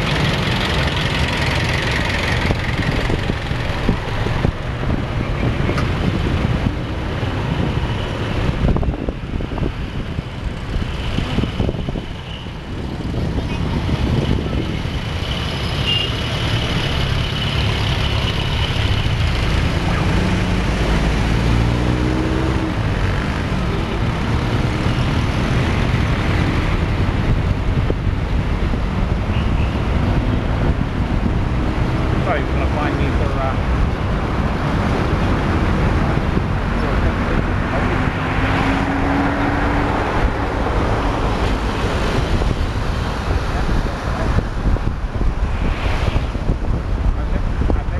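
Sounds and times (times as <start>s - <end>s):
car engine and tyre noise: 0.0s - 47.9s.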